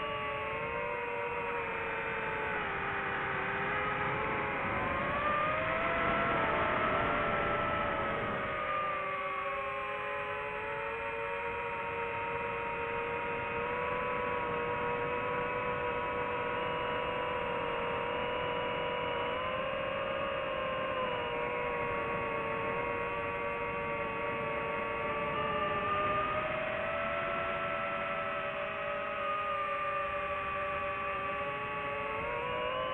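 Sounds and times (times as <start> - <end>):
drone propellers whining: 0.0 - 32.9.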